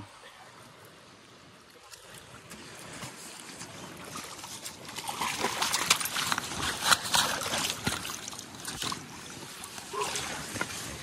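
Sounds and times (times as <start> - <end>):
fish splashing in shallow water: 1.7 - 11.0.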